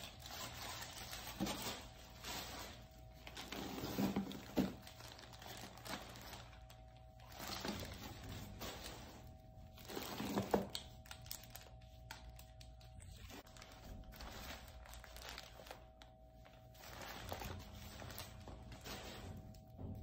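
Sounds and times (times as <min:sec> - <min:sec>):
plastic bags crinkling: 0:00.0 - 0:19.9.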